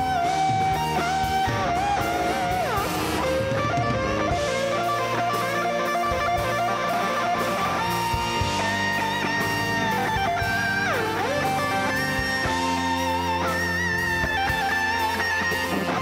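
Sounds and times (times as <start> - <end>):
lead electric guitar: 0.0 - 16.0
live band playing rock ballad: 0.0 - 16.0.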